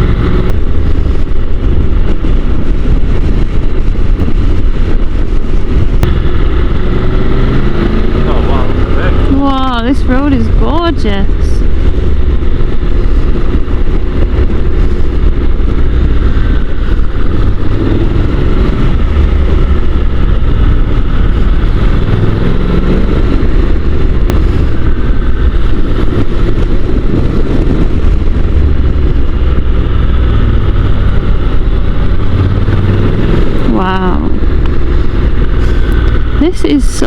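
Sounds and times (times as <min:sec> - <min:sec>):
motorcycle engine running: 0:00.0 - 0:37.0
wind rumble on microphone: 0:00.0 - 0:37.0.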